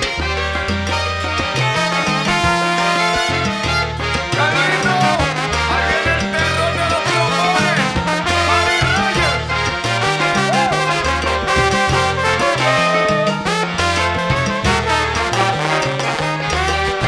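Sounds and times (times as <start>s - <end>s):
bent melody notes: 0.0s - 17.0s
salsa band playing: 0.0s - 17.0s.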